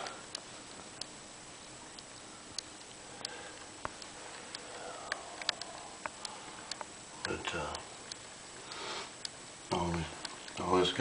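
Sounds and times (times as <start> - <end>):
light clicks and taps: 2.0 - 11.0.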